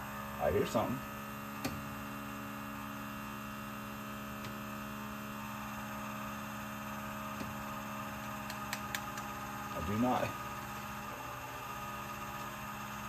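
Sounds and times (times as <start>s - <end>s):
electric fuel pump humming: 0.0s - 13.0s.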